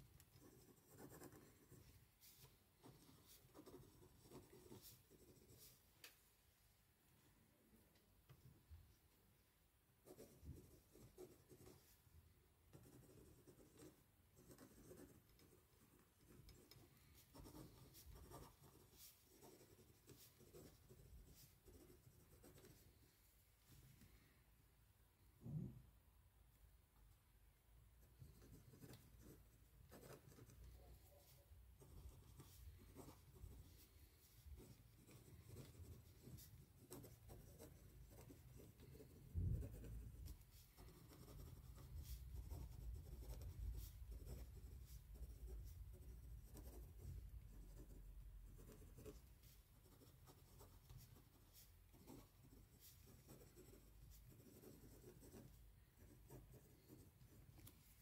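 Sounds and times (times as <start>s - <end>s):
pen scratching on paper: 0.0s - 5.8s, 10.0s - 11.9s, 12.7s - 22.9s, 28.0s - 58.0s.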